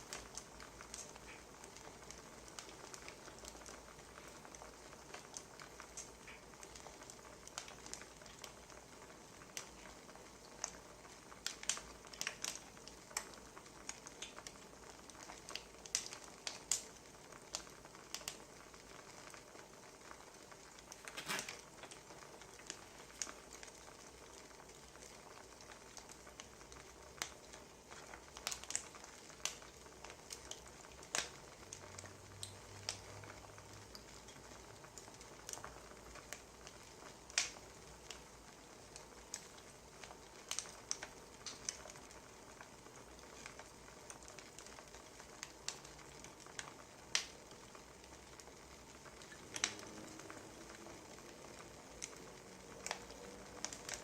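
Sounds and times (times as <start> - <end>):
faint steady hiss: 0.0 - 54.0
wood fire crackling: 0.0 - 54.0.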